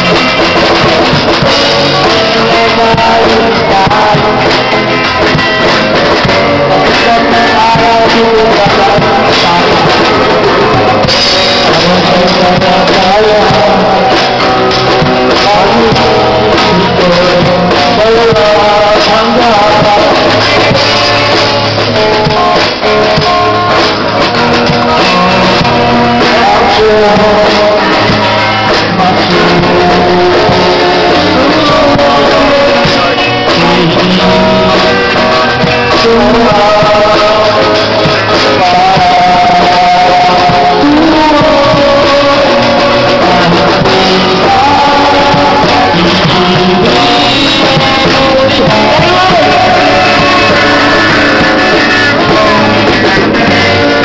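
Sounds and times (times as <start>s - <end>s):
drum kit beat: 0.0s - 54.0s
guitar: 0.0s - 54.0s
person singing: 0.0s - 54.0s.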